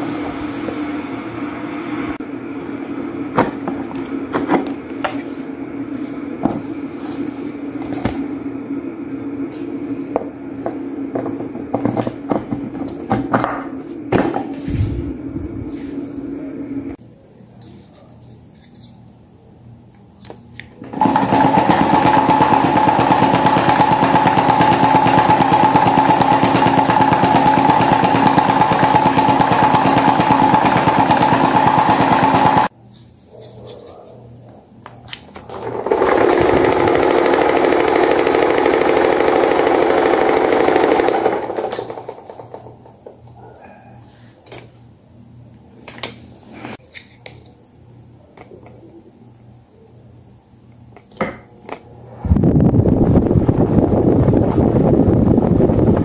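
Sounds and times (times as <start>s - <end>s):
electric fan whirring: 0.0s - 56.0s
lower-pitched fan whir: 0.0s - 56.0s.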